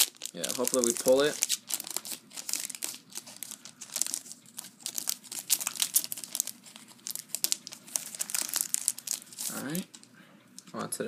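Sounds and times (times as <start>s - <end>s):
foil wrapper crinkling: 0.0s - 10.1s.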